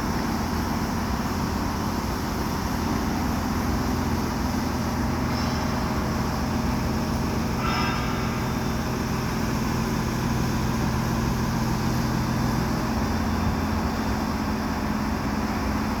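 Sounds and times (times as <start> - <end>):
crane diesel engine humming: 0.0 - 16.0.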